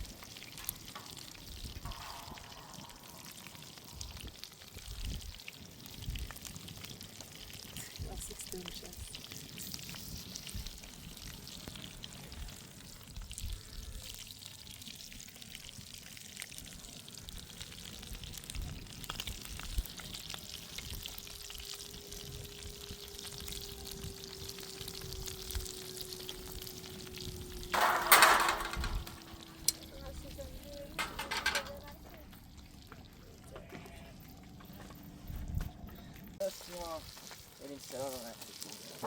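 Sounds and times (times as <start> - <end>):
food sizzling in pan: 0.0 - 33.4, 36.4 - 39.0.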